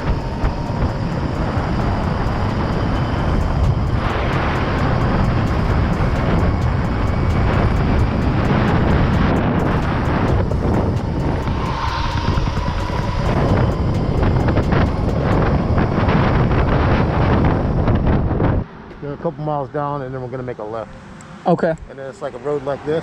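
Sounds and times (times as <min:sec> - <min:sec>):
road noise: 0:00.0 - 0:23.0
wind rushing over microphone: 0:00.0 - 0:23.0.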